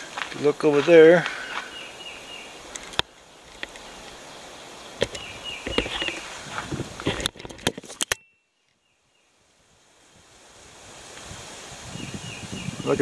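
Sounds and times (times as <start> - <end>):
outdoor rustling: 0.0 - 13.0.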